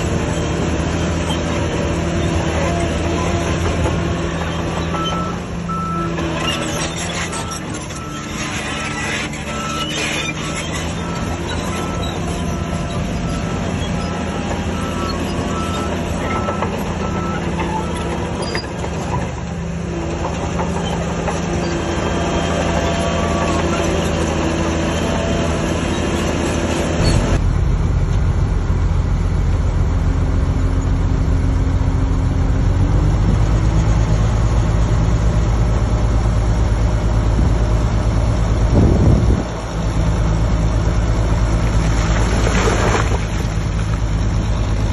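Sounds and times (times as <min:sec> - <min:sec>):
heavy diesel engines running: 0:00.0 - 0:44.9.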